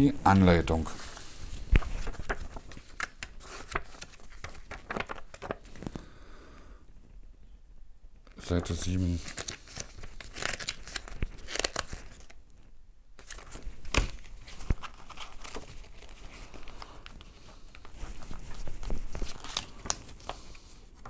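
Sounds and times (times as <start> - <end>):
paper rustling and crinkling: 0.3 - 6.0, 8.3 - 21.0.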